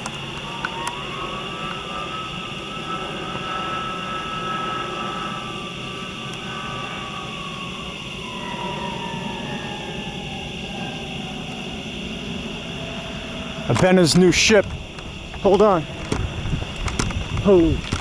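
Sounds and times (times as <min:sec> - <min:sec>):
aircraft engine rumble: 0:00.0 - 0:18.0
aircraft engine whine: 0:00.0 - 0:18.0.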